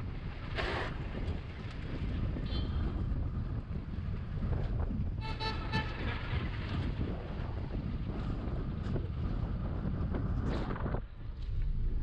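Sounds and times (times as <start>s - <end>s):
car tyres and engine rumble: 0.0s - 12.0s
wind buffeting microphone: 0.0s - 12.0s.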